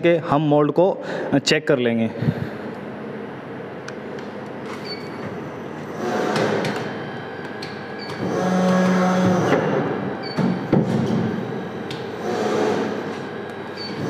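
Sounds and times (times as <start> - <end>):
injection moulding machine humming: 2.2 - 14.0.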